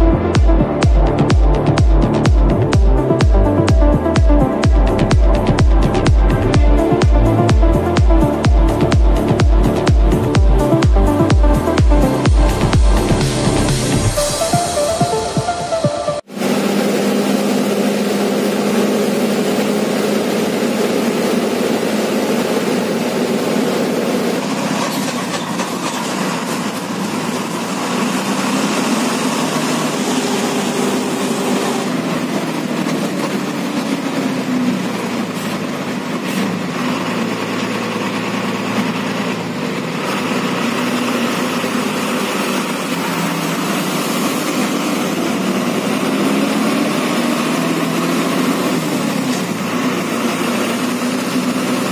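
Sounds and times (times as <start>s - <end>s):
bus diesel engine running: 0.0s - 51.9s
road and wind noise: 0.0s - 51.9s.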